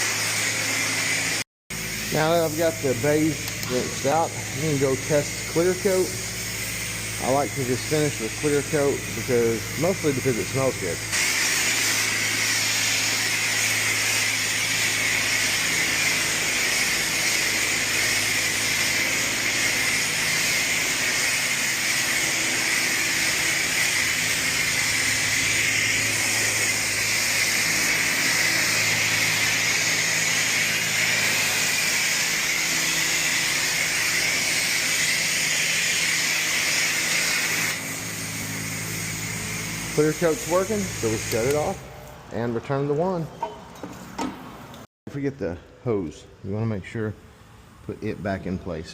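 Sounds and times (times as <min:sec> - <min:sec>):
spray wand hissing: 0:00.0 - 0:41.8.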